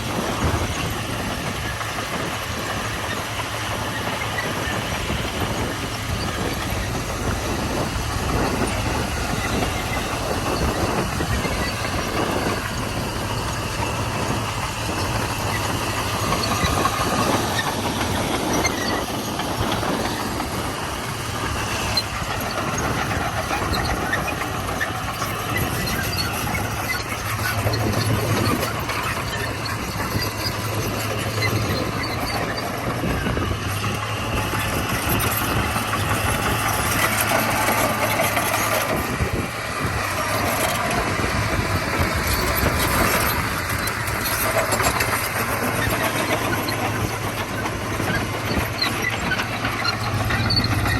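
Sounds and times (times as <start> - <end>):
bulldozer diesel engine humming: 0.0 - 50.9.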